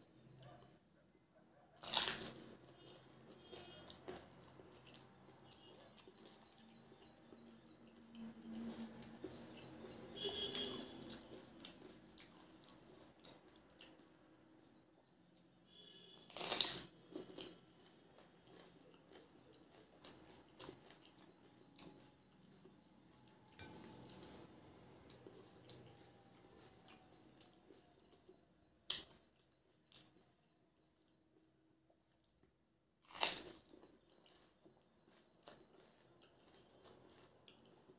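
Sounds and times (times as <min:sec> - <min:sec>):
crisp shells crunching and chewing: 0:01.8 - 0:14.4, 0:16.2 - 0:31.1, 0:32.2 - 0:37.9.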